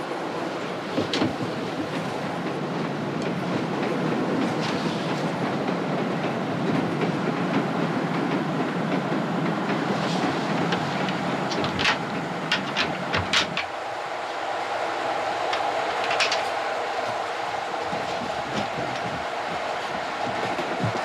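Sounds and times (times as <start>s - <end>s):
train running noise from inside: 0.0s - 21.0s.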